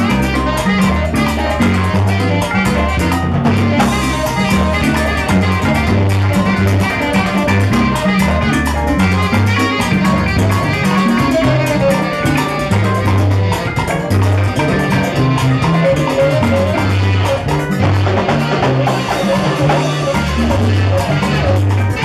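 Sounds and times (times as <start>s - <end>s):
bass guitar line: 0.0s - 22.0s
congas: 0.0s - 22.0s
drum kit: 0.0s - 22.0s
saxophone melody notes: 0.0s - 22.0s.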